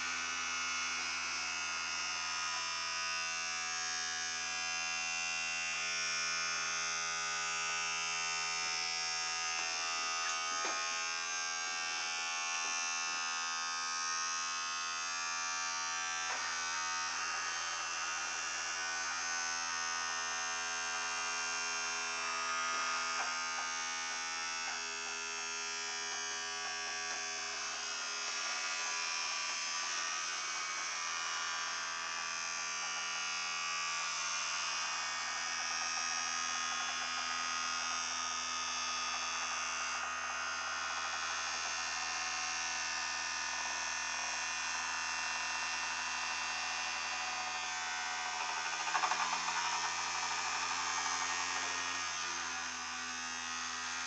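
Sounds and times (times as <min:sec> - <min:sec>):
toothbrush motor buzzing in foil: 0:00.0 - 0:54.0.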